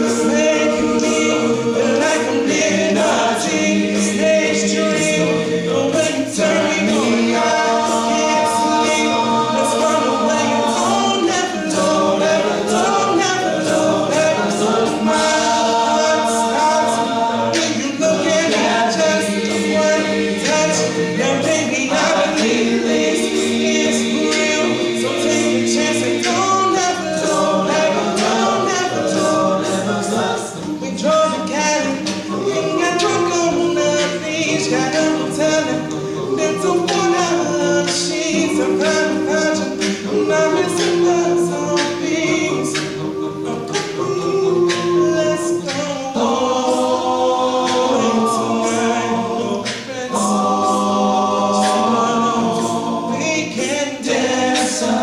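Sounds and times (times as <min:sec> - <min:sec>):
male a cappella group singing: 0:00.0 - 0:55.0.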